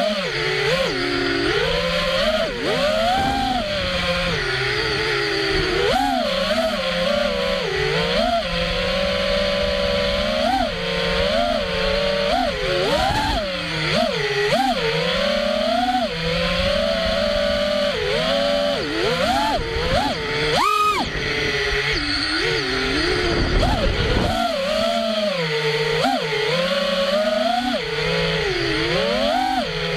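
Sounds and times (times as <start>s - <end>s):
drone motors whining: 0.0s - 29.9s.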